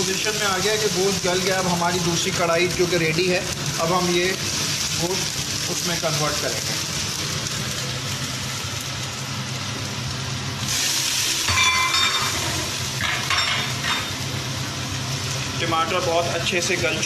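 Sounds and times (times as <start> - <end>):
chicken and onions sizzling in oil: 0.0 - 17.0
tomatoes frying in oil: 0.0 - 17.0.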